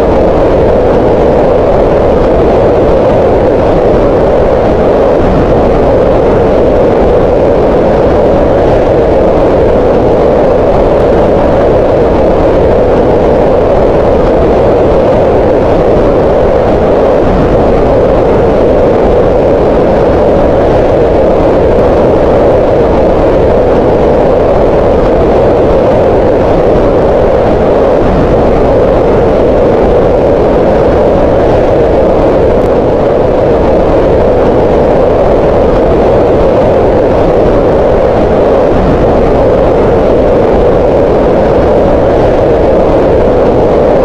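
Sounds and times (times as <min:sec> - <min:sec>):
green noise: 0:00.0 - 0:44.0.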